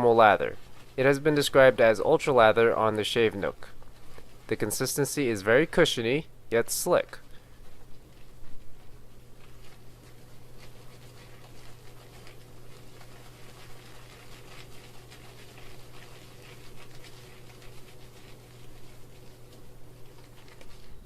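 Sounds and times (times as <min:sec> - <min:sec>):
brush swishing shaving lather: 0:00.0 - 0:21.0
steady low hum: 0:00.0 - 0:21.0.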